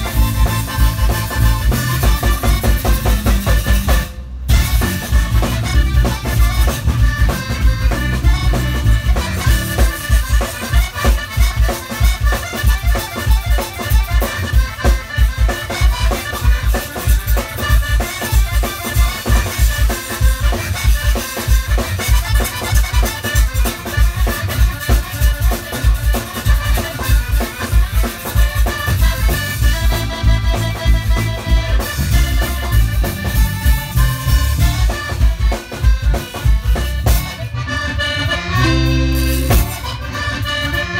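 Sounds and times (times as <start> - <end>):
accordion: 0.0 - 40.9
zydeco band playing: 0.0 - 40.9.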